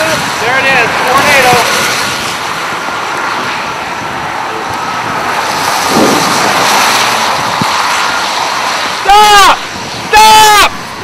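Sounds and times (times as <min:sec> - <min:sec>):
highway traffic noise: 0:00.0 - 0:11.0
wind: 0:00.0 - 0:11.0
car passing close by: 0:00.1 - 0:09.1.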